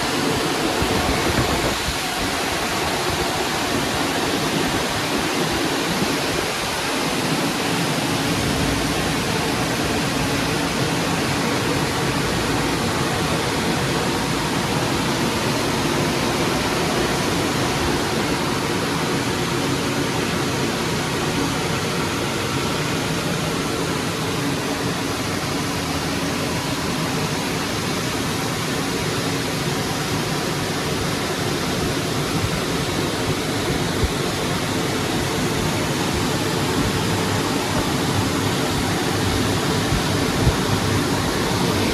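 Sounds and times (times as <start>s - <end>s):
car wash rushing noise: 0.0s - 41.9s.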